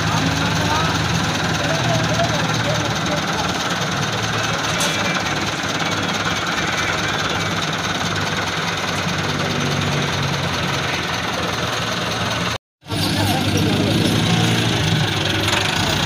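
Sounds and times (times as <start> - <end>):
tractor diesel engine idling: 0.0 - 16.0.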